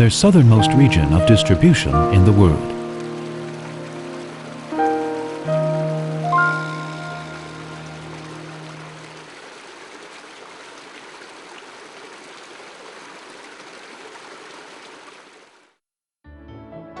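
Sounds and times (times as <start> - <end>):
creek water running: 0.0 - 15.8.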